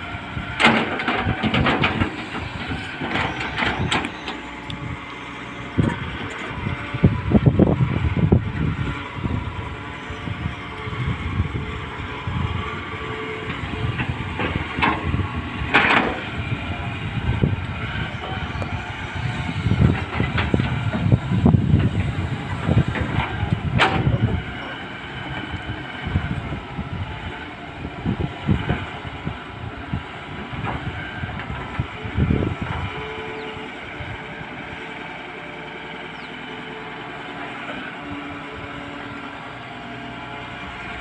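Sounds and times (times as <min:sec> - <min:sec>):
excavator diesel engine: 0:00.0 - 0:41.0.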